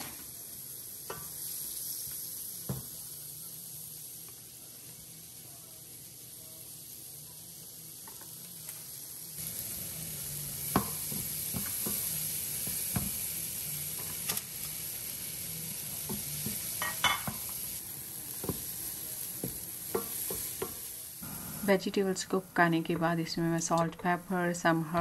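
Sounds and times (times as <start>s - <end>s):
vegetables sizzling in a pan: 0.0s - 25.0s.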